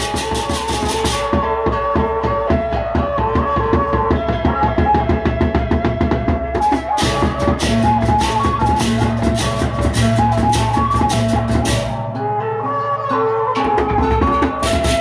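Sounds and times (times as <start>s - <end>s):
barrel drums beating: 0.0s - 12.3s, 13.6s - 15.0s.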